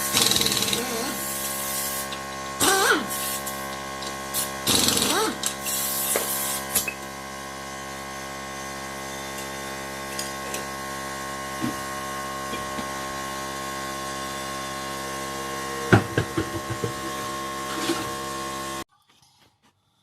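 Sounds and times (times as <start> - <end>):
steady mechanical hum with whine: 0.0 - 18.8.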